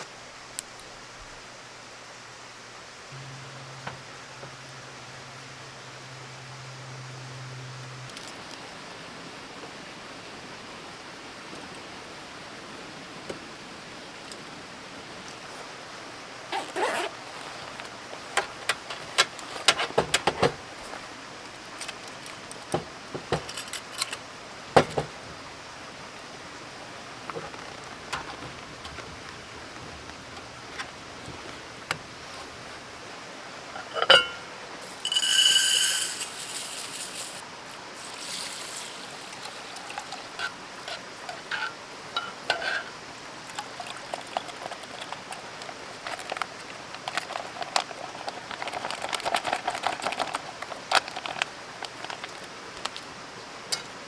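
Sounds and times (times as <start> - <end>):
steady hiss: 0.0 - 48.7.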